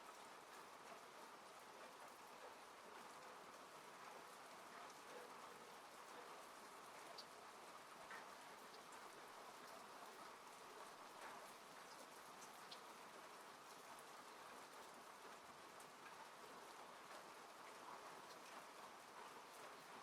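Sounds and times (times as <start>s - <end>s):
steady hiss of rain: 0.0s - 20.0s.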